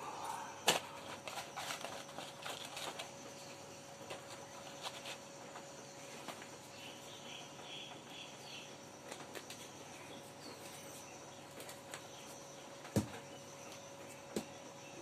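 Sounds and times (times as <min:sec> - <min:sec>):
faint chirps: 0:00.0 - 0:15.0
faint room hum: 0:00.0 - 0:15.0.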